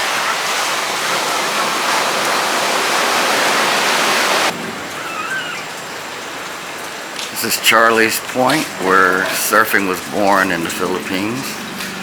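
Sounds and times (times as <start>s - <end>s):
ocean surf breaking on beach: 0.0s - 11.9s.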